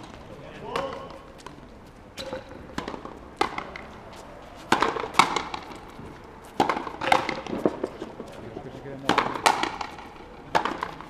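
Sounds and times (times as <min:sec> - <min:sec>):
rubber ball striking rackets and walls: 0:00.0 - 0:01.6, 0:02.2 - 0:04.0, 0:04.7 - 0:08.3, 0:09.0 - 0:11.0.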